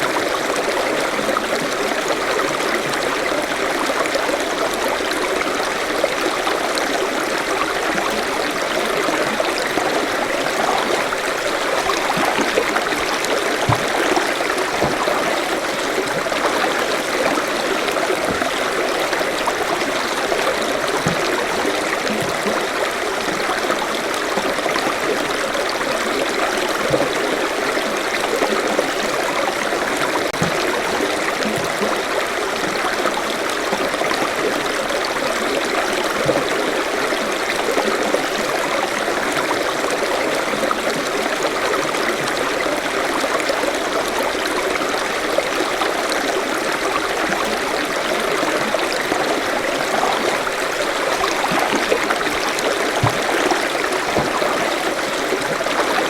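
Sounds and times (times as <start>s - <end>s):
stream water over rocks: 0.0s - 56.0s.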